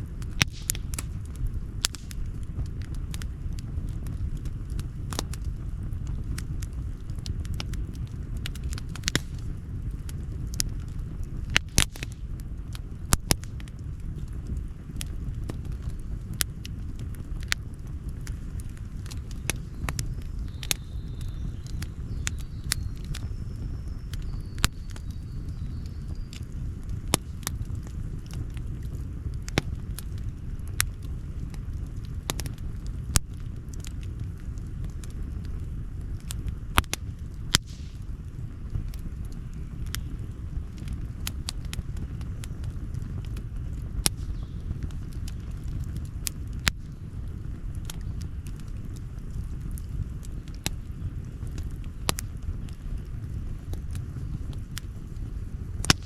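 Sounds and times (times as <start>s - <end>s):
burning wood popping and snapping: 0.0s - 56.0s
campfire crackling: 0.0s - 56.0s
fire low rumble: 0.0s - 56.0s.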